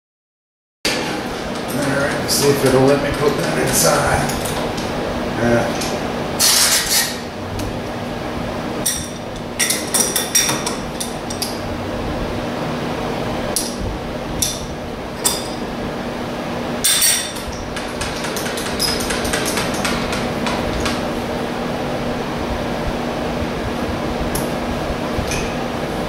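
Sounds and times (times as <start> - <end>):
steady low hum: 0.9 - 26.0.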